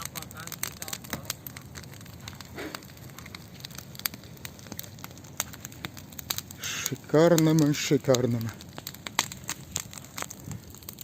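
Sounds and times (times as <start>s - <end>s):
hiss of flames: 0.0s - 11.0s
wood crackling and popping: 0.0s - 11.0s.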